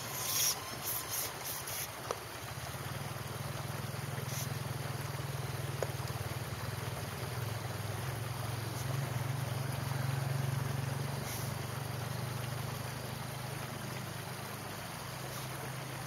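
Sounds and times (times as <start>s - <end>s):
low steady hum: 0.0s - 16.0s
stream running over rocks: 0.0s - 16.0s.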